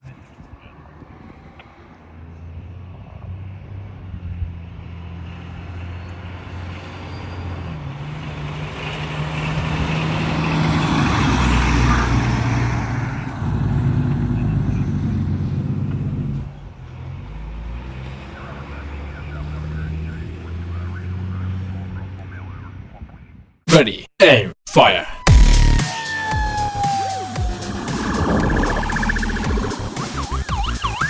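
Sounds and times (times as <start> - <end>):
fire engine pulling out: 0.1 - 22.5, 25.3 - 31.0.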